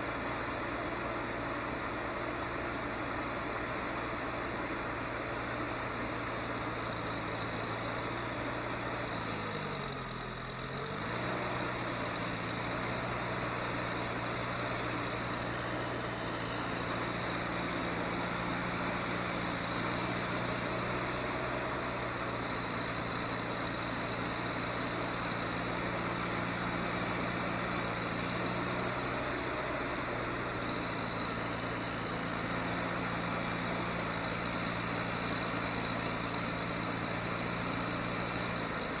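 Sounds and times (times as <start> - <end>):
heavy vehicle engine running: 0.0 - 39.0.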